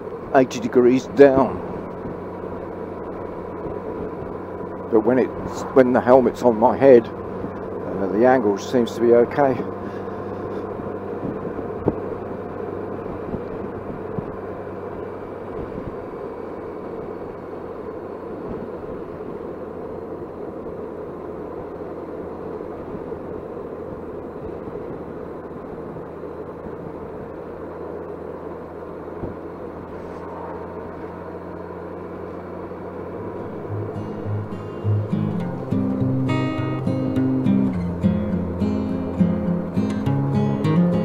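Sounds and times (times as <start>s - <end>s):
motorcycle engine hum: 0.0s - 41.0s
road noise: 0.0s - 41.0s.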